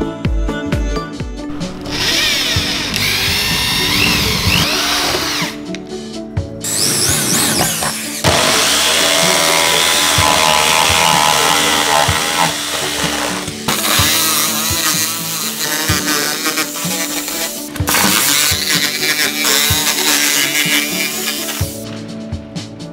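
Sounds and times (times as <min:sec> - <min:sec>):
jigsaw cutting: 0:01.6 - 0:05.7, 0:06.6 - 0:21.8
electric drill whining: 0:01.6 - 0:05.8, 0:06.6 - 0:21.8.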